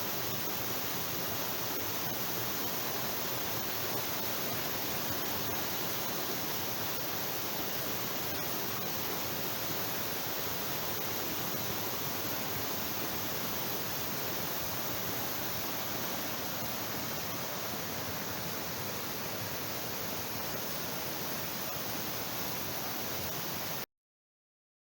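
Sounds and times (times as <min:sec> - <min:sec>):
waterfall rushing: 0:00.3 - 0:23.8.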